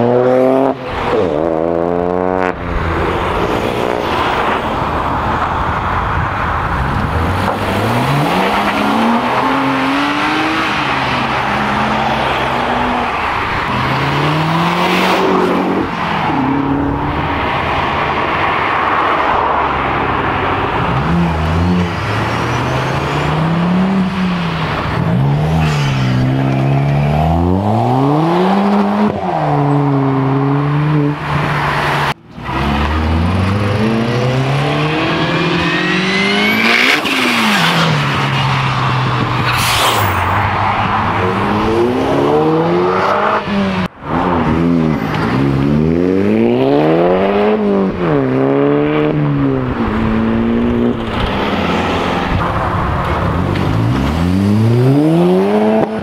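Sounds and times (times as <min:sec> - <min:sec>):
cars accelerating hard: 0:00.0 - 0:56.0.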